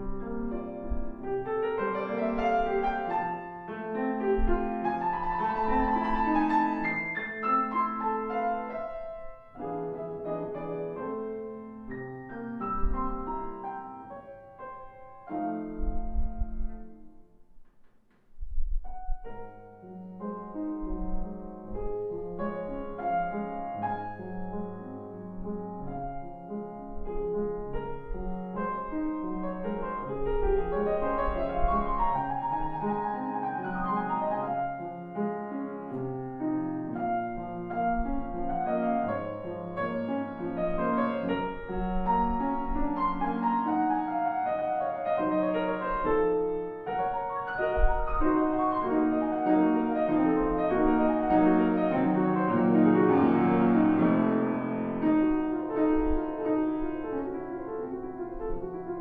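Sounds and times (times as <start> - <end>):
classical piano playing quick runs: 0.0 - 59.0.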